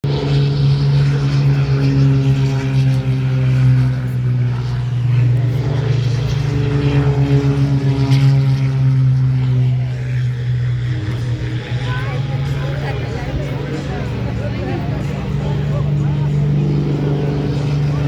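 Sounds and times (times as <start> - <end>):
propeller aircraft engine droning: 0.0 - 18.0.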